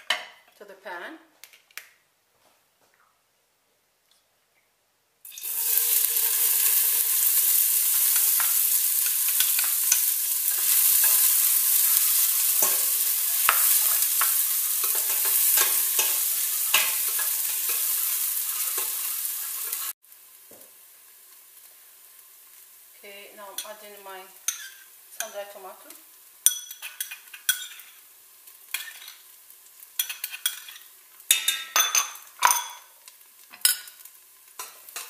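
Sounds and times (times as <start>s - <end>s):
onion sizzling in hot oil: 5.2s - 35.0s.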